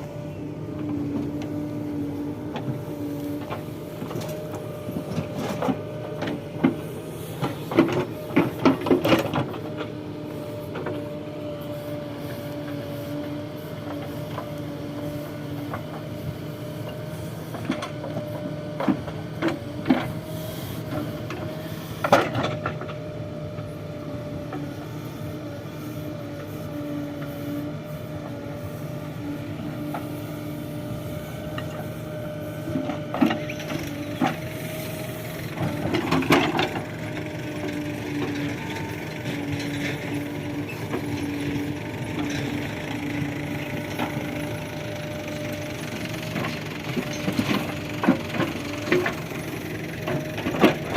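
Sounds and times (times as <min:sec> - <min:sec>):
diesel engine whining: 0:00.0 - 0:50.9
digger clanks and knocks: 0:00.0 - 0:50.9.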